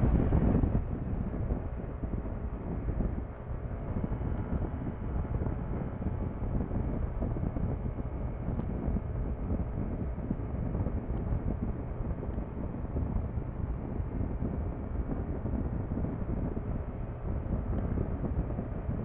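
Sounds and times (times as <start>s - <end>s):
wind rushing on microphone: 0.0s - 19.0s.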